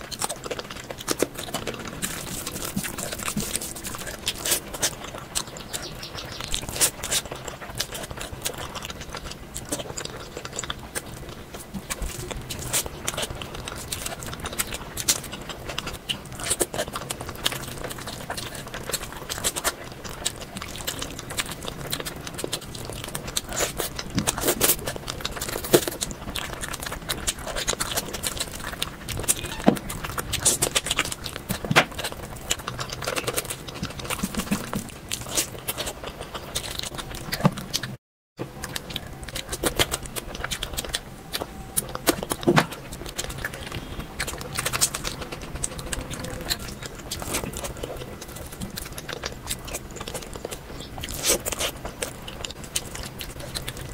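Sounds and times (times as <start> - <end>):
wet chewing: 0.0 - 53.9.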